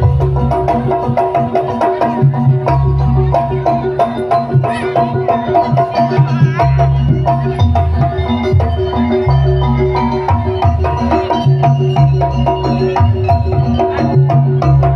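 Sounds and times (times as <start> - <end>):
hand drums beating: 0.0 - 14.9
struck metallophones: 0.0 - 14.9.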